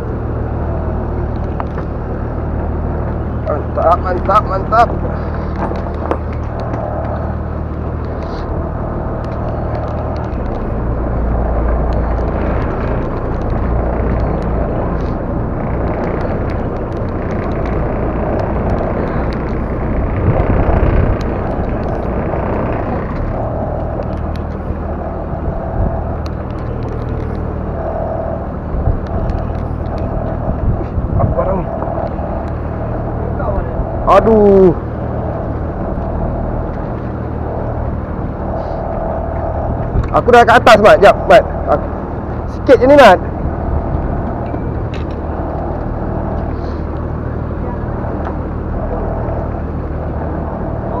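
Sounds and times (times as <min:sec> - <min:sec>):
boat engine running: 0:00.0 - 0:51.0
water and wind hissing: 0:00.0 - 0:51.0.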